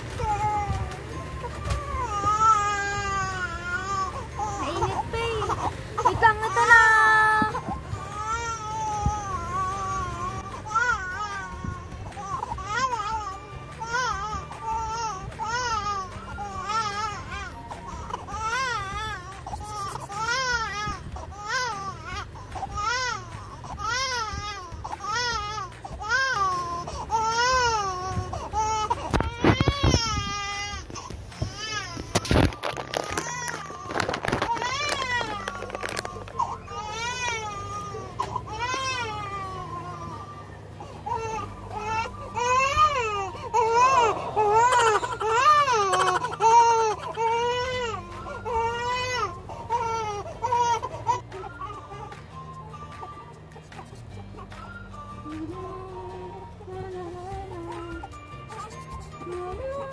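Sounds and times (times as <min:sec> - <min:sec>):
baby crying: 0:00.0 - 0:52.2.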